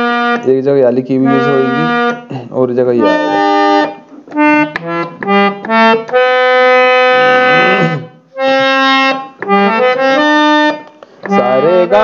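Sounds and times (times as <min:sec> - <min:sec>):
harmonium playing: 0:00.0 - 0:12.0.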